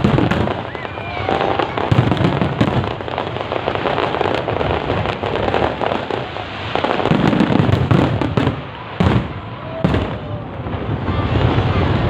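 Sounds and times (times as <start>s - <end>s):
deep fireworks booms: 0.0s - 12.0s
fireworks crackling: 0.0s - 12.0s.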